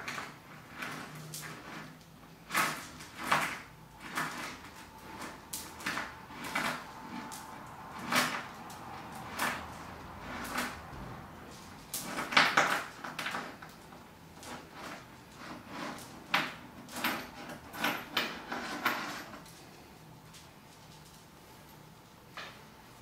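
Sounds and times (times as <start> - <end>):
steel chain clinking and rattling: 0.0 - 19.7.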